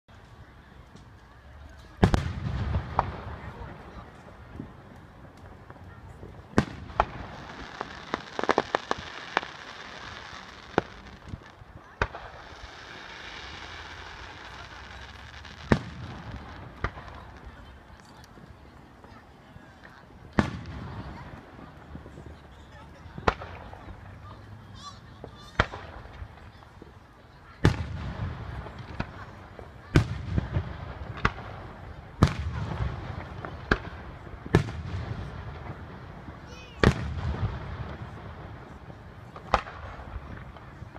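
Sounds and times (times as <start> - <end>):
fireworks bursting in sharp bangs: 1.8 - 18.2, 18.9 - 24.6, 25.2 - 40.9.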